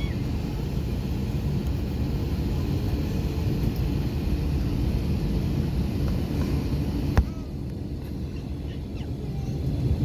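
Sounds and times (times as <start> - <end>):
aircraft wheels rolling: 0.0 - 10.0
jet engines at low thrust: 0.0 - 10.0.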